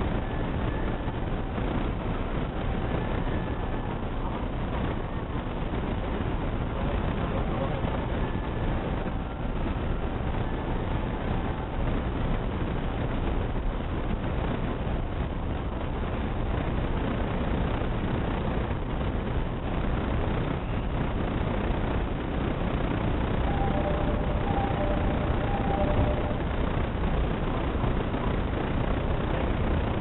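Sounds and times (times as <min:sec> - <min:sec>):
train interior hum: 0:00.0 - 0:30.0.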